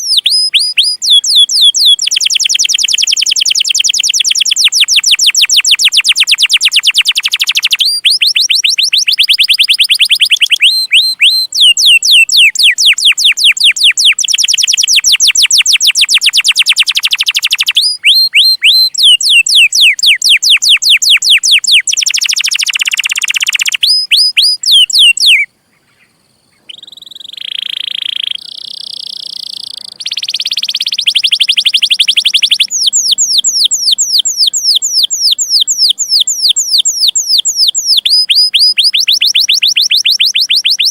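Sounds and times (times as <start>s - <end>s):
canary singing: 0.0s - 25.5s, 26.6s - 40.9s.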